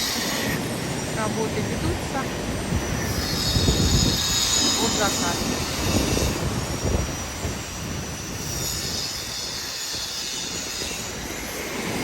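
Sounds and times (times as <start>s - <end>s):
train rumble: 0.0s - 12.0s
train wheels squealing: 0.0s - 12.0s.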